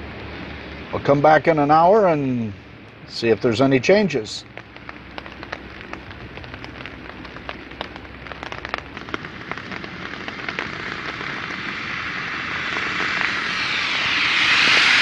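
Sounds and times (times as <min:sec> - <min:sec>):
freezing rain patter: 0:00.0 - 0:15.0
tyres hissing on wet road: 0:00.0 - 0:15.0.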